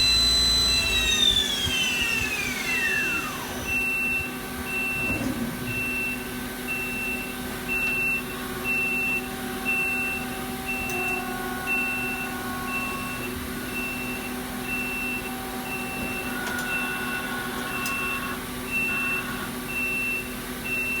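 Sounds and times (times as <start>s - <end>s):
lathe mechanical hum: 0.0s - 21.0s.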